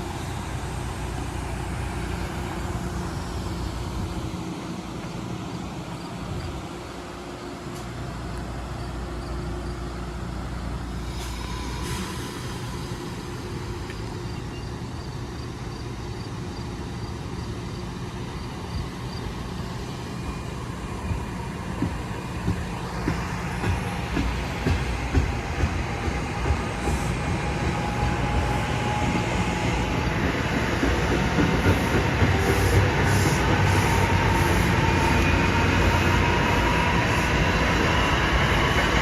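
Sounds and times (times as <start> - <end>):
electric train humming: 0.0 - 39.0.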